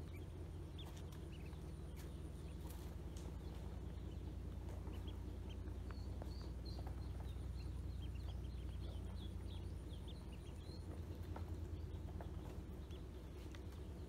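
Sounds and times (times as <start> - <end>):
ducklings peeping: 0.0 - 14.0
low background rumble: 0.0 - 14.0.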